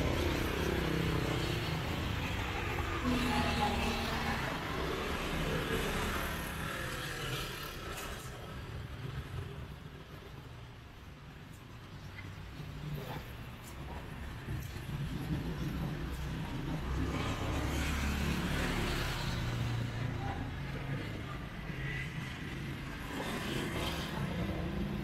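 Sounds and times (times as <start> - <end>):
street traffic: 0.0 - 25.0.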